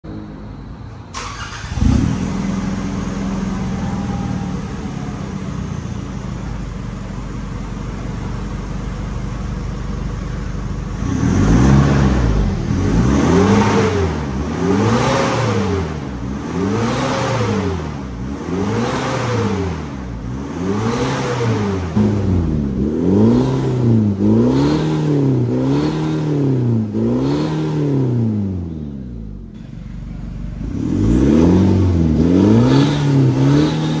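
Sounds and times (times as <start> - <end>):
car engine idling: 0.4 - 27.0, 28.2 - 34.0
car engine revving: 1.1 - 34.0.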